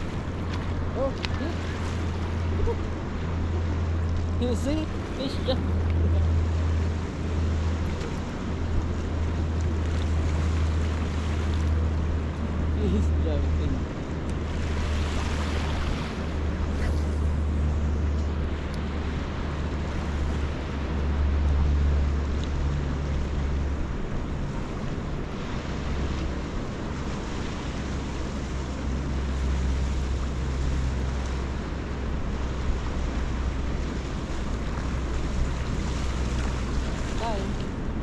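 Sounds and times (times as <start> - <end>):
small waves on beach: 0.0 - 38.0.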